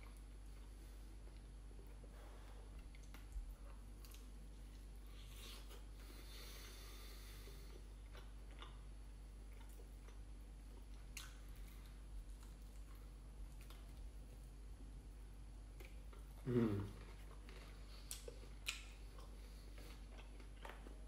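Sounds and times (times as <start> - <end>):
chewing fried chicken: 0.0 - 14.8, 15.5 - 21.0.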